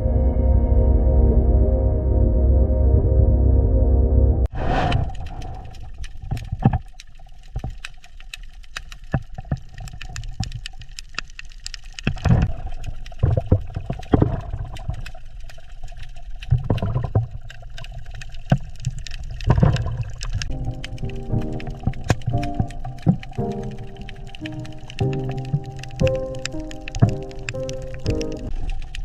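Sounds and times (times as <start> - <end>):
water gurgling and sloshing: 4.5 - 29.0
water splashing: 4.5 - 29.0
sharp clicks and crackles: 4.6 - 29.0.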